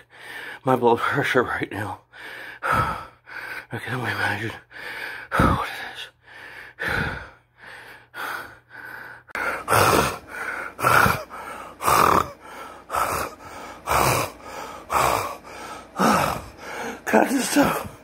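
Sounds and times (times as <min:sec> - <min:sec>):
man panting heavily: 0:00.0 - 0:00.7, 0:02.0 - 0:18.0.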